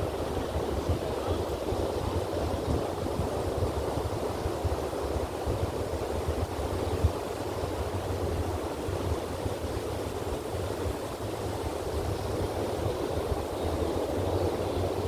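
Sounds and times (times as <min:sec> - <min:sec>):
ocean surf washing onto beach: 0:00.0 - 0:15.0
wind rumble on microphone: 0:00.0 - 0:15.0.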